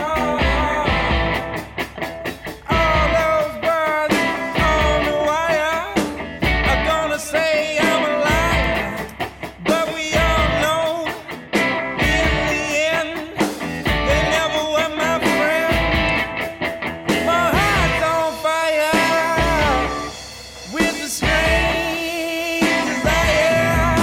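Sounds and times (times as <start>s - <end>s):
rock music with singing: 0.0s - 24.0s.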